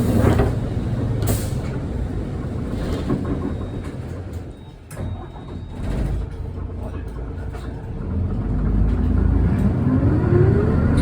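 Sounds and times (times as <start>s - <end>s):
large vehicle rumble: 0.0s - 11.0s.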